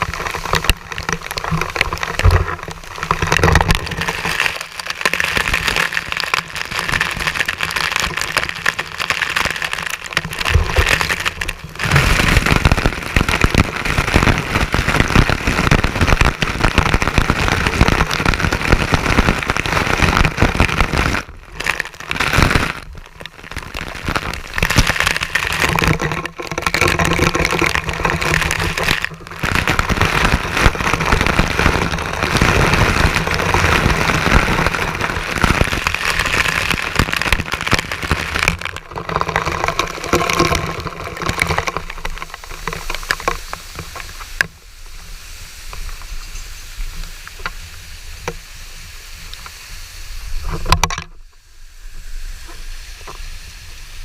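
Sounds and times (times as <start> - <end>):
water splashing: 0.0 - 47.6.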